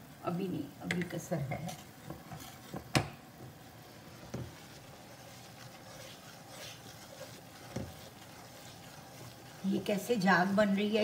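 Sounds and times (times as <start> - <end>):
flour sizzling in ghee: 0.0 - 11.0
wooden spatula stirring: 1.5 - 11.0.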